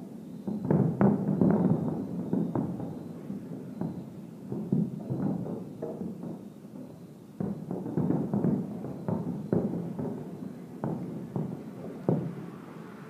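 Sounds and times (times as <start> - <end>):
distant fireworks booms: 0.0 - 13.0.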